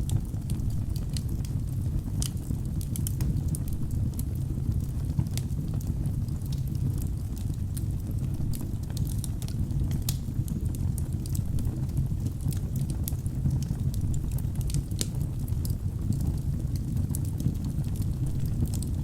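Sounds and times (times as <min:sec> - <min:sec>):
burning logs crackling and popping: 0:00.0 - 0:19.0
low rumble of flames: 0:00.0 - 0:19.0.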